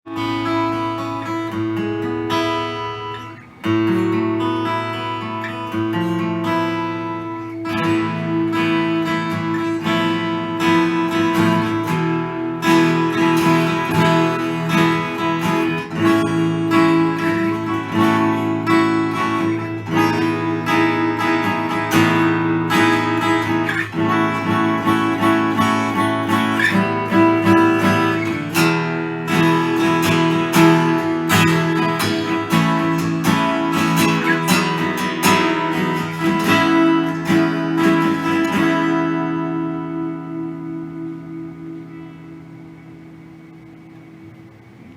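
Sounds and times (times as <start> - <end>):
acoustic guitar strumming chords: 0.0 - 44.9.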